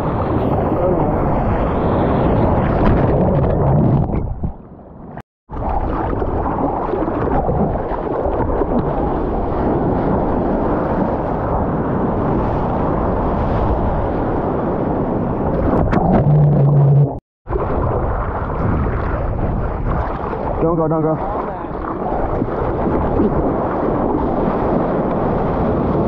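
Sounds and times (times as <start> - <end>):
waves rushing and splashing: 0.0 - 3.8, 5.5 - 26.0
wind buffeting microphone: 0.0 - 26.0.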